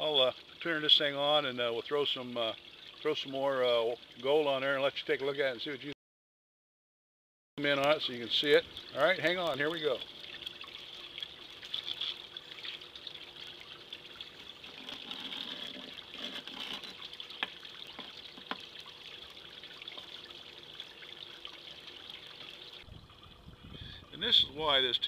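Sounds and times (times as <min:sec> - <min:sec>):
water trickling: 0:00.0 - 0:05.9, 0:07.6 - 0:25.0.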